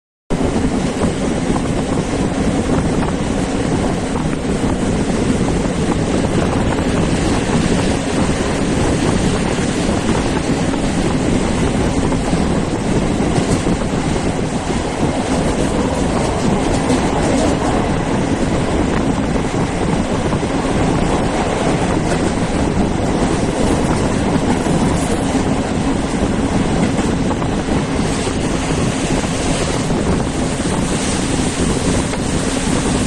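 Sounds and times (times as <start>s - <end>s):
train wheels rumbling on track: 0.3s - 33.0s
wind rushing past microphone: 0.3s - 33.0s.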